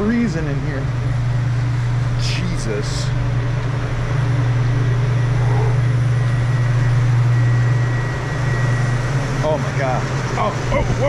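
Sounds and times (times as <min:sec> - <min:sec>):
freezer fans rushing drone: 0:00.0 - 0:11.0.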